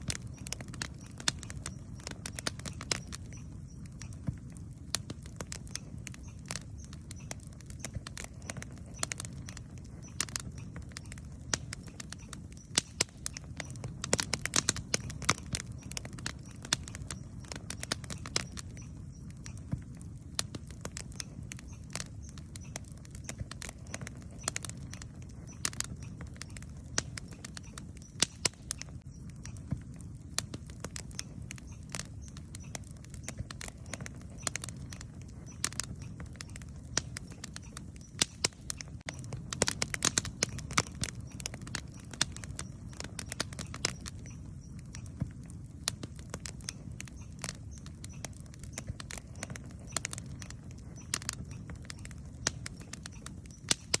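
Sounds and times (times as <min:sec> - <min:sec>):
campfire crackling: 0:00.0 - 0:54.0
sharp pops of fire: 0:00.0 - 0:54.0.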